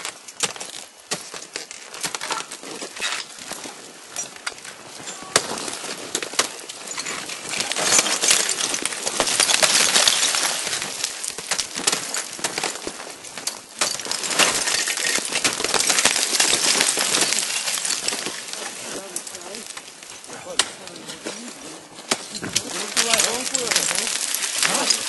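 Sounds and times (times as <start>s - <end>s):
ice axe striking ice: 0.0s - 21.4s, 22.0s - 25.0s
ice fragments clinking and skittering: 0.1s - 25.0s.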